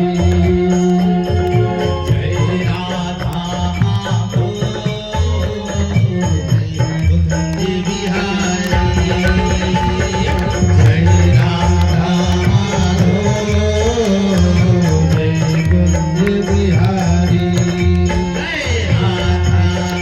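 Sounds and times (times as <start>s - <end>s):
devotional song melody: 0.0s - 20.0s
repeating drum rhythm: 0.0s - 20.0s.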